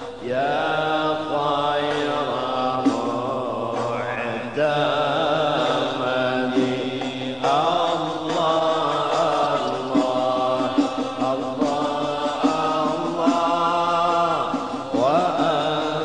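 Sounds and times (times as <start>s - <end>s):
voices chanting: 0.0s - 16.0s.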